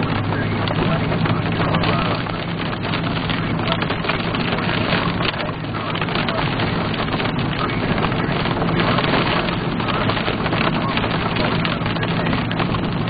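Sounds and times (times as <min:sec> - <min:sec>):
rain and wind on car: 0:00.0 - 0:13.0.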